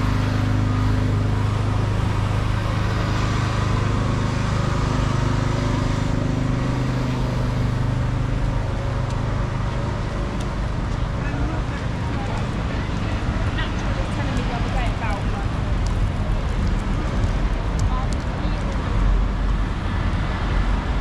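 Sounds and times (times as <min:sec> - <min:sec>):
passing traffic: 0:00.0 - 0:21.0
vehicle engine humming: 0:00.0 - 0:21.0.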